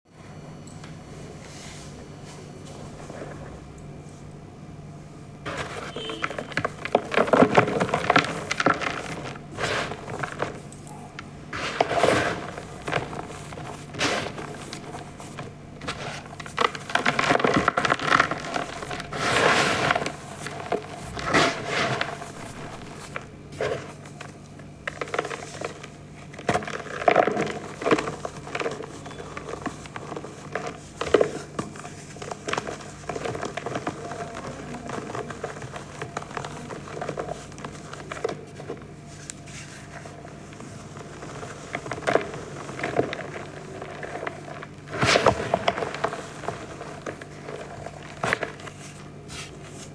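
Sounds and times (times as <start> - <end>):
chalk crunching and crumbling: 5.4 - 49.9.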